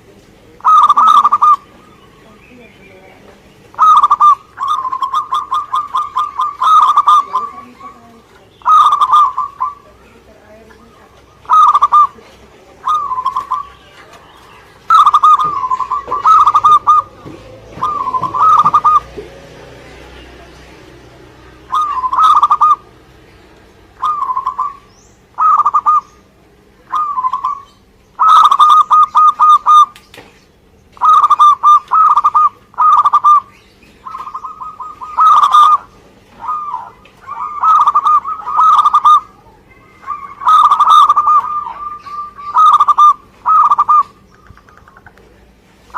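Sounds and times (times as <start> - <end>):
dove cooing: 0.0 - 30.0, 31.0 - 45.9.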